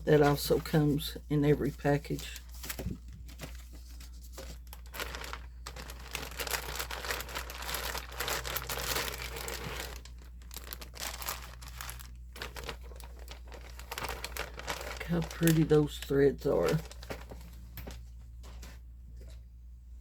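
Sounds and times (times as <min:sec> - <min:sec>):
packaging crinkling and rustling: 0:00.0 - 0:19.4.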